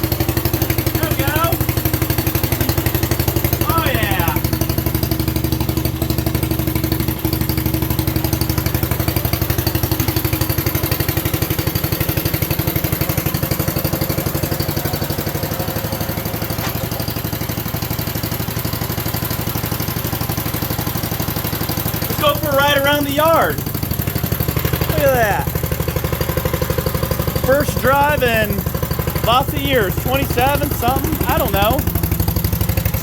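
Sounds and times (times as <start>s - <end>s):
garden tractor engine puttering: 0.0s - 33.0s.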